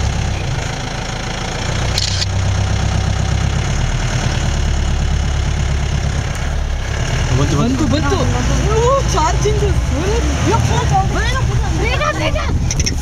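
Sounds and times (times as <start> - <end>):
jeep engine idling: 0.0 - 13.0.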